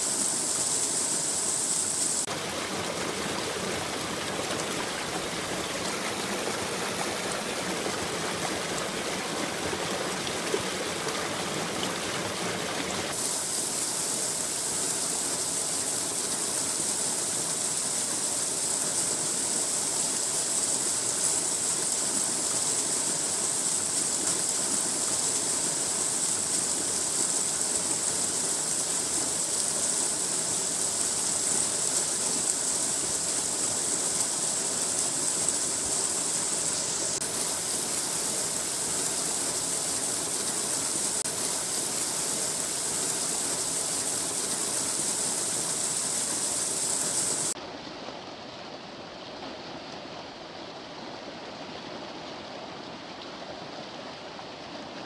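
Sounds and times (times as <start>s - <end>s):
water rushing over weir: 0.0s - 55.0s.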